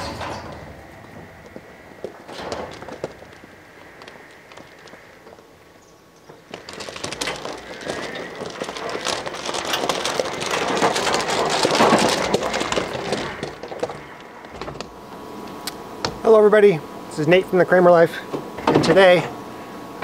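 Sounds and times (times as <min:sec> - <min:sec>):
mower tyres crunching over gravel: 0:00.0 - 0:20.0.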